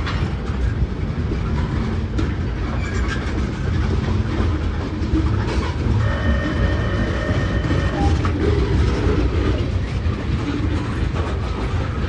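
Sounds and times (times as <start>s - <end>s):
train wheels rumbling on rail: 0.0s - 12.0s
wheels clicking over rail joints: 0.0s - 12.0s.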